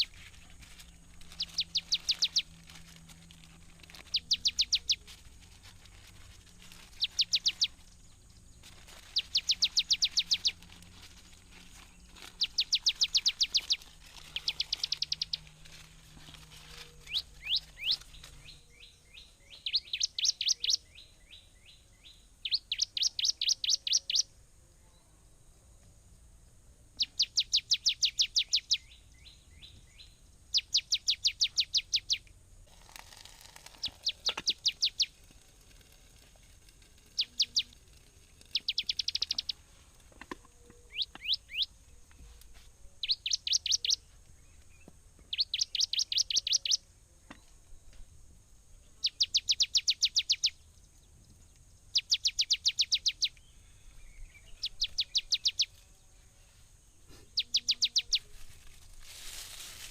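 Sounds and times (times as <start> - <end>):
faint steady high hiss: 0.0 - 59.9.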